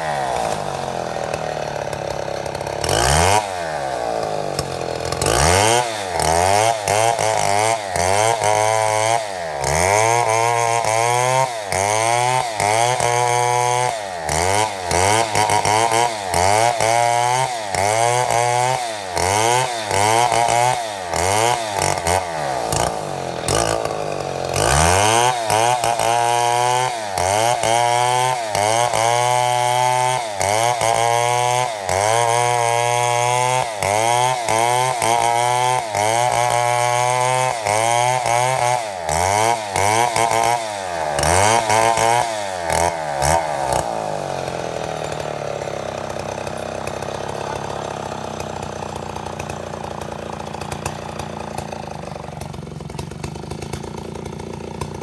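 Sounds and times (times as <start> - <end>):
chainsaw cutting wood: 0.0 - 55.0
chainsaw idling: 0.0 - 55.0.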